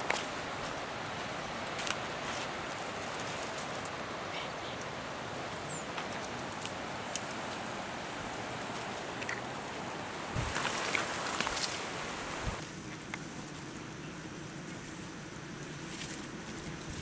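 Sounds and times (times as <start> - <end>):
crackles of dry twigs: 0.0 - 17.0
steady outdoor hiss: 0.0 - 17.0.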